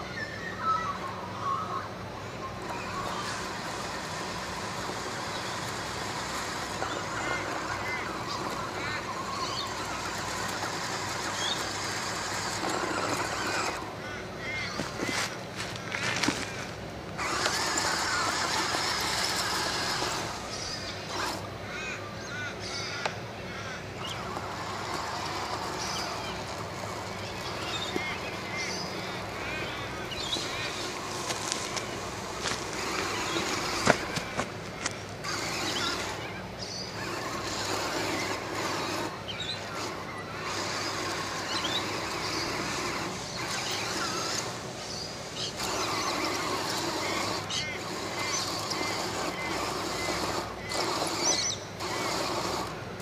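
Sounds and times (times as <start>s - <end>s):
electric motors whining: 0.0s - 53.0s
wheels crunching on gravel: 2.7s - 22.0s, 24.1s - 53.0s.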